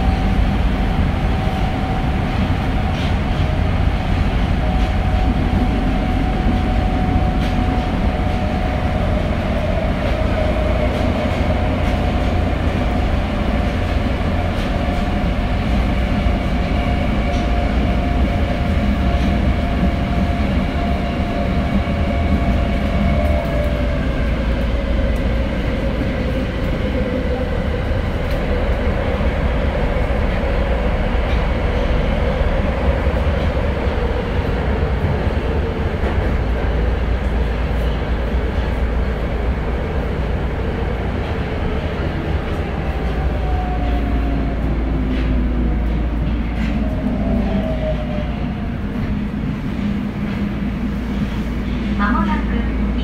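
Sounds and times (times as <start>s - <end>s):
subway train wheels rumbling: 0.0s - 53.0s.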